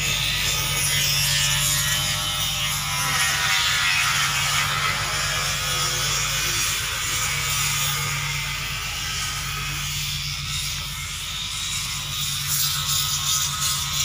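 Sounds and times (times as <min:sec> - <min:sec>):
machinery drone with hiss: 0:00.0 - 0:14.0.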